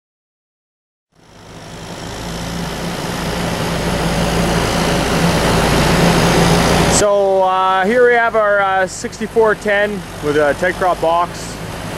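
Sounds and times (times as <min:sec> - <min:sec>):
tractor diesel engine running: 0:01.2 - 0:11.9.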